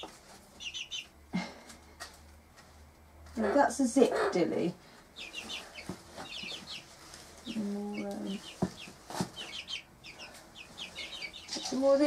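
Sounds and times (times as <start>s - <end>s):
chicks peeping: 0.0s - 2.3s, 3.4s - 12.0s.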